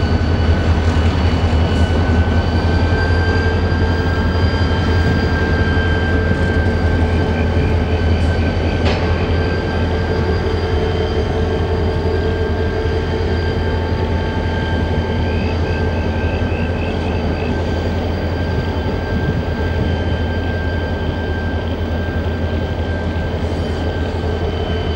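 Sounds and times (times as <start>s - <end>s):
constant high squeal: 0.0s - 24.9s
train rolling with low rumble: 0.0s - 24.9s.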